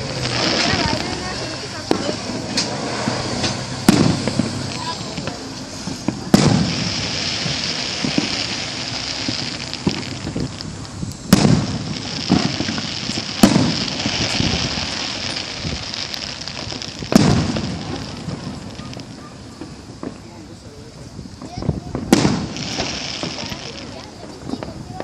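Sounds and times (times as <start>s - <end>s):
fireworks booming: 0.0s - 25.0s
fireworks popping and crackling: 0.0s - 25.0s.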